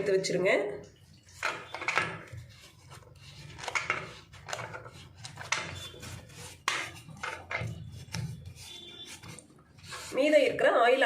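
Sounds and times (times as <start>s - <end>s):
rubbing and scraping strokes: 1.2s - 10.6s.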